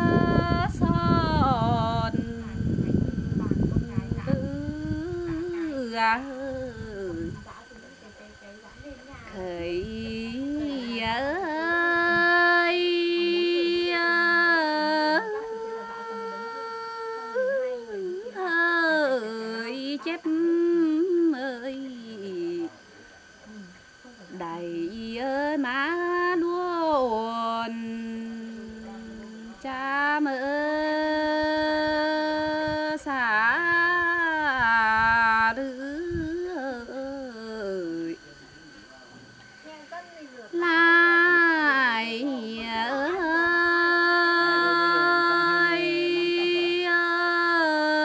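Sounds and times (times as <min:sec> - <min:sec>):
woman singing unaccompanied: 0:00.0 - 0:38.3, 0:39.8 - 0:48.0.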